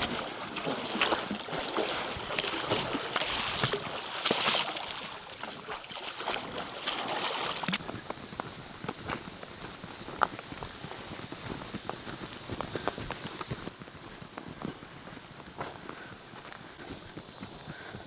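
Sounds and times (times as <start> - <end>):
flowing creek water: 0.0 - 18.0
people wading through water: 0.0 - 18.0.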